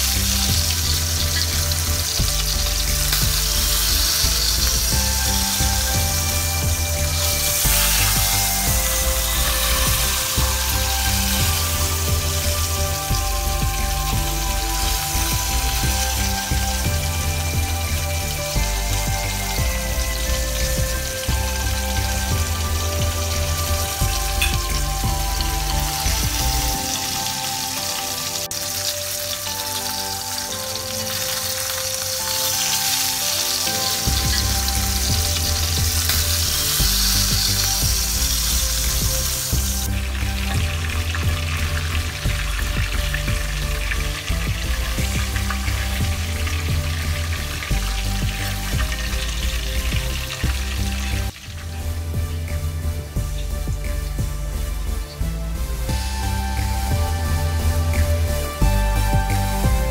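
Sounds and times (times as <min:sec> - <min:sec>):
chicken sizzling in oil: 0:00.0 - 0:59.9
music with bass beat: 0:00.0 - 0:59.9.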